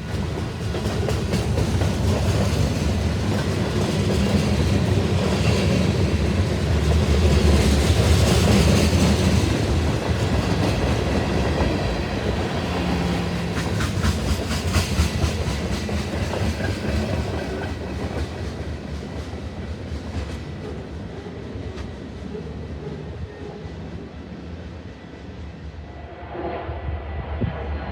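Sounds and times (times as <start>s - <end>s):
train wheels clacking over rail joints: 0.0s - 23.1s.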